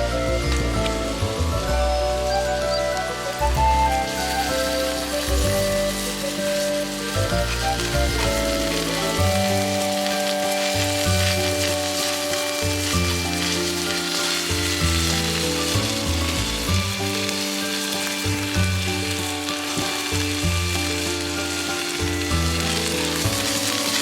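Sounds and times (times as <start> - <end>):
background music of held chords: 0.0 - 24.0
meat sizzling in a pan: 0.0 - 24.0.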